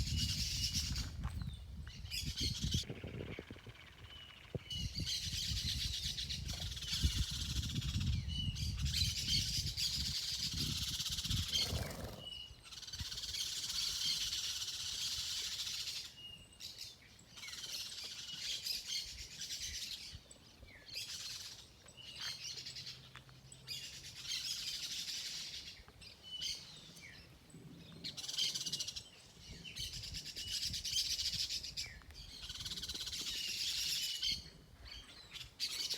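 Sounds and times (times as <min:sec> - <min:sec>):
birds chirping and singing: 0:00.0 - 0:35.9.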